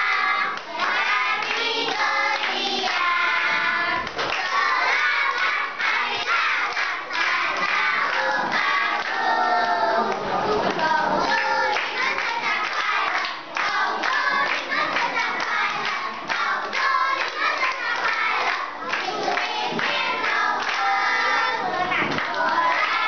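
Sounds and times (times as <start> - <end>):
children singing together: 0.0 - 23.0
hands clapping: 0.4 - 3.1, 3.9 - 5.6, 6.2 - 23.0.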